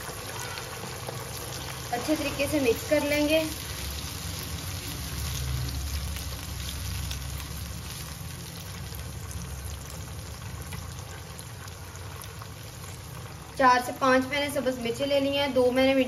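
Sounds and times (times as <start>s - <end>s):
onions sizzling in a wok: 0.0s - 16.0s.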